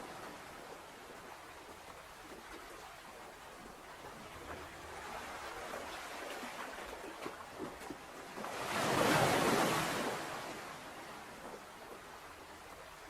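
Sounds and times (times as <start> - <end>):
ocean waves lapping: 0.0 - 13.0
wave surging and washing out: 0.0 - 13.0.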